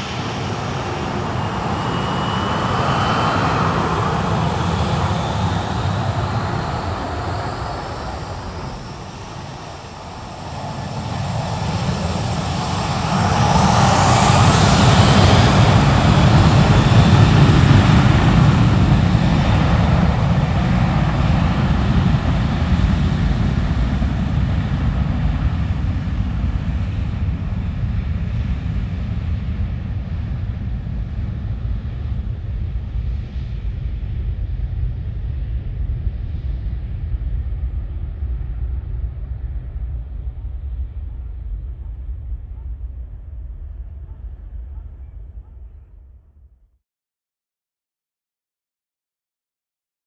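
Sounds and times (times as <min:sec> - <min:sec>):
jet engines rumbling: 0:00.0 - 0:46.2.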